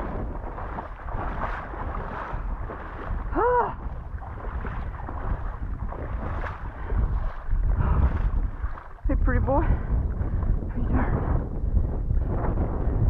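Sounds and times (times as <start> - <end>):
water sloshing from wading: 0.0 - 11.1.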